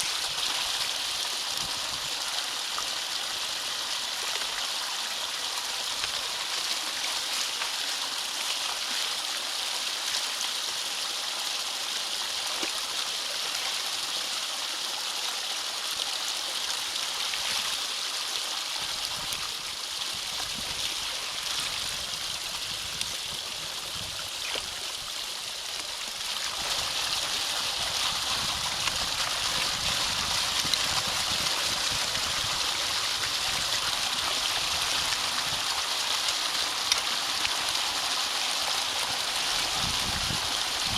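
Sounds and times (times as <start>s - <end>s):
water rushing and gurgling: 0.0s - 40.9s.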